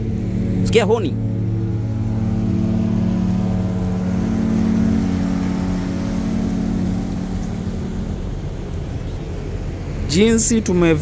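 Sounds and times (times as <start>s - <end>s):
ship horn blast: 0.0s - 10.0s.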